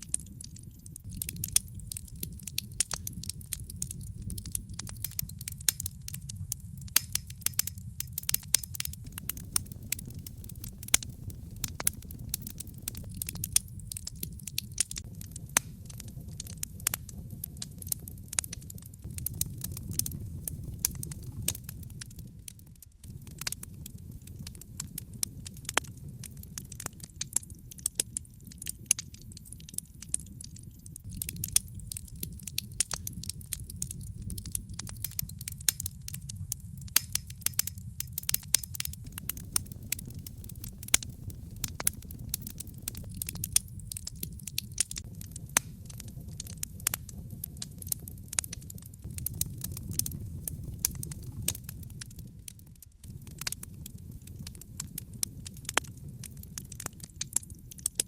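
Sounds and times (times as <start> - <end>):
burning logs crackling: 0.0 - 58.0.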